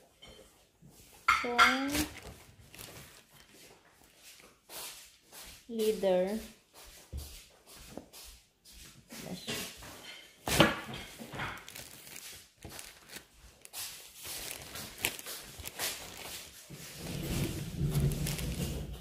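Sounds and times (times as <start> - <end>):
rustling of handled item: 0.1 - 19.0.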